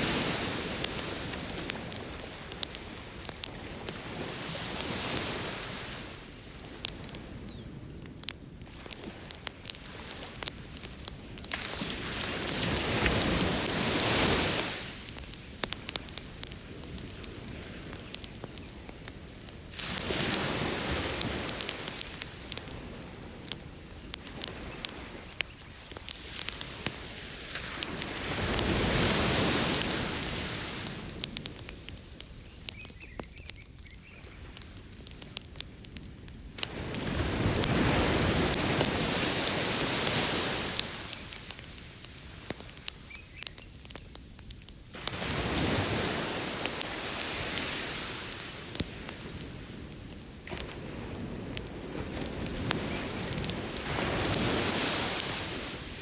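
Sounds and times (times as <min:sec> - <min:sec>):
ocean waves washing ashore: 0:00.0 - 0:33.5, 0:34.2 - 0:44.0, 0:44.9 - 0:56.0
campfire crackling and popping: 0:00.0 - 0:56.0.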